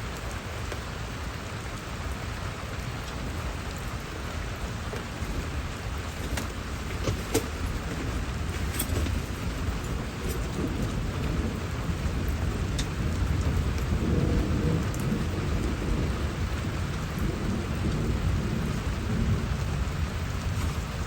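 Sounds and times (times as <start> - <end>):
rain falling: 0.0 - 21.0
thunder rumbling: 0.0 - 21.0.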